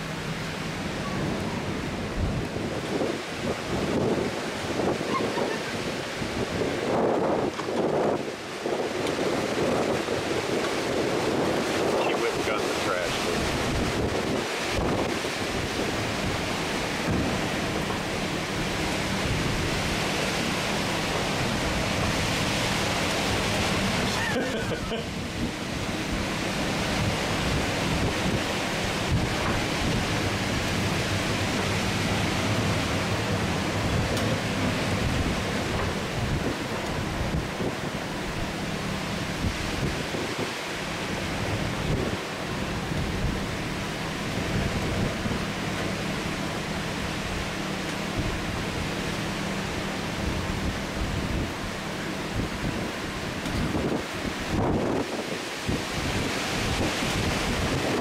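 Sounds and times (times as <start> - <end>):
heavy rain pouring: 0.0 - 58.0
wind: 0.0 - 58.0.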